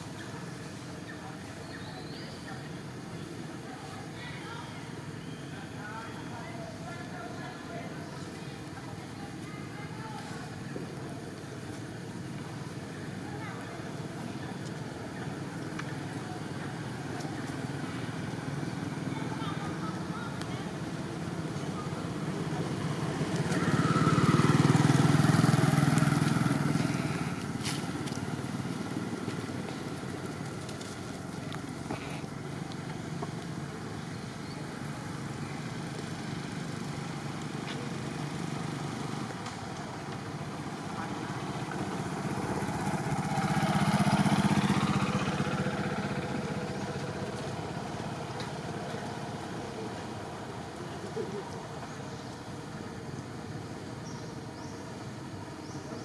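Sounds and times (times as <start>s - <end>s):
steady traffic background: 0.0s - 56.0s
vehicles passing by: 0.0s - 56.0s.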